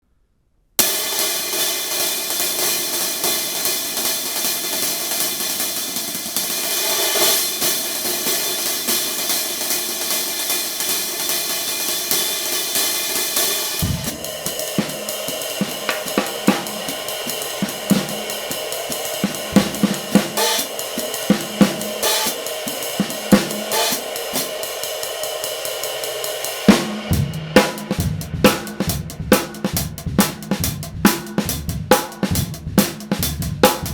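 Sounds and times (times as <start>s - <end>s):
kick drum and snare groove: 0.8s - 25.3s, 26.6s - 33.9s
hi-hat cymbals playing: 0.8s - 33.9s.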